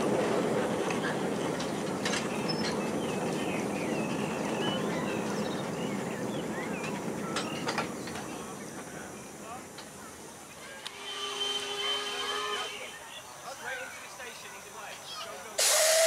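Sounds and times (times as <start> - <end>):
miniature train rumbling past: 0.0 - 12.8, 13.4 - 16.0.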